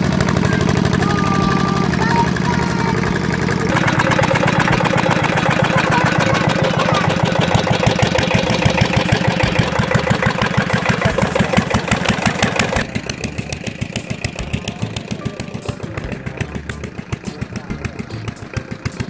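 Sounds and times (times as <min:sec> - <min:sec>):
diesel engine chugging: 0:00.0 - 0:19.0.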